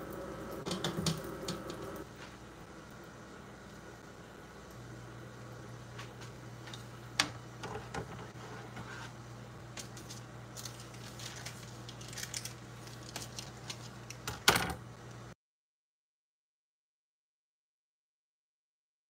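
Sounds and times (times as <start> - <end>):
doughnut frying in oil: 0.0 - 15.4
steady low hum: 0.0 - 15.4.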